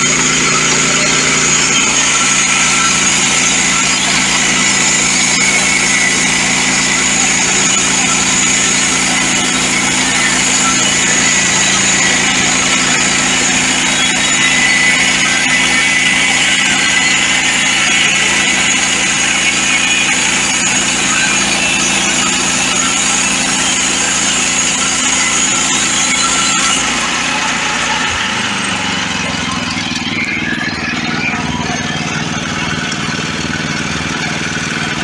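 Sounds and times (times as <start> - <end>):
small gas engine running: 0.0 - 35.0.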